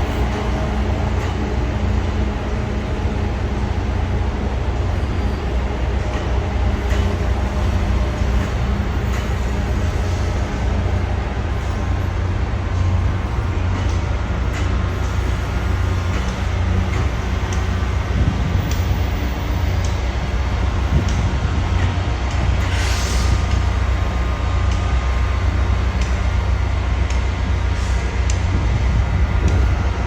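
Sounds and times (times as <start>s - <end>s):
train engine rumbling: 0.0s - 30.0s.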